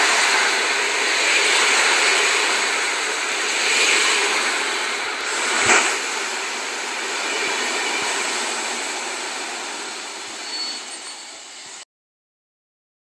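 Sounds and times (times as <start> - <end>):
train wheels rushing on rail: 0.0 - 11.8.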